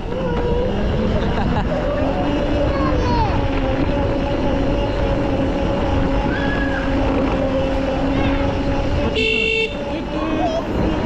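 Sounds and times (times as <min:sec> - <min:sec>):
quad bike engine humming: 0:00.0 - 0:11.0
wind rumbling on microphone: 0:00.0 - 0:11.0.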